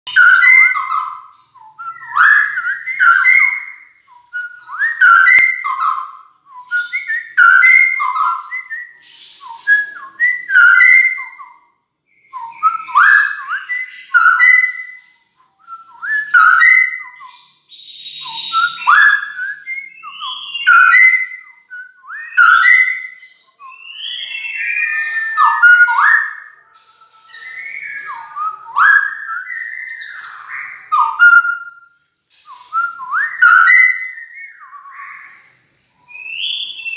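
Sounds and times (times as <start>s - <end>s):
bird singing whistled phrases: 0.0s - 36.9s.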